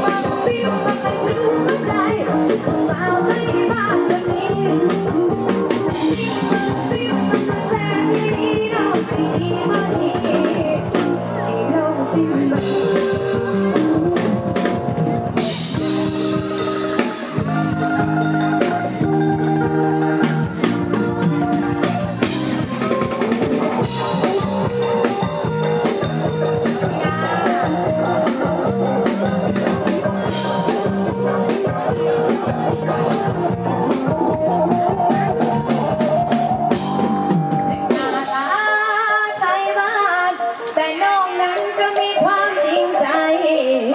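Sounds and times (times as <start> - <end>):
drum kit beat: 0.0 - 11.3, 12.6 - 40.8
live band melody: 0.0 - 43.9.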